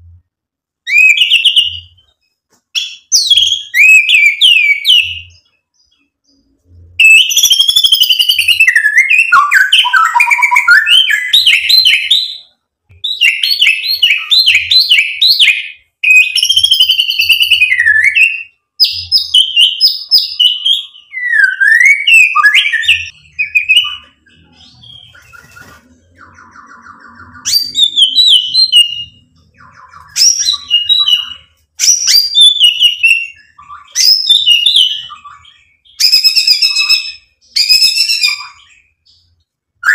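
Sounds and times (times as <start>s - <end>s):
bird singing whistled phrases: 0.9s - 2.1s, 2.8s - 6.0s, 6.8s - 39.9s.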